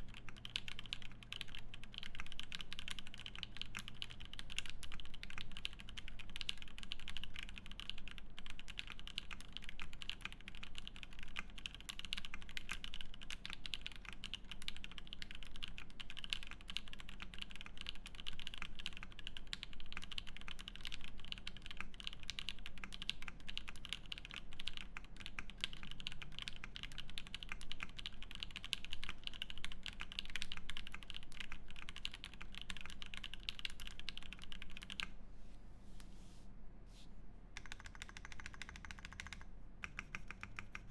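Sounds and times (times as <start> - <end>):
fast mechanical keyboard typing: 0.0 - 35.1, 37.6 - 40.9.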